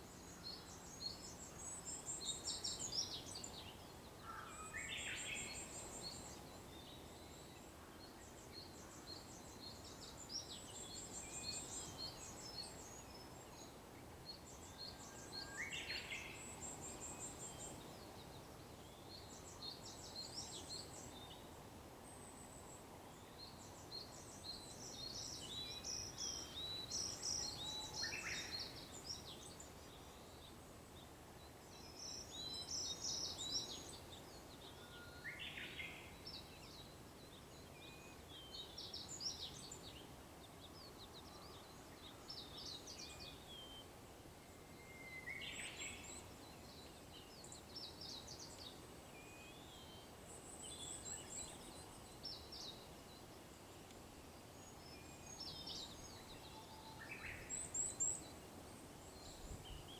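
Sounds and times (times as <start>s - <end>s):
low background hiss: 0.0s - 59.9s.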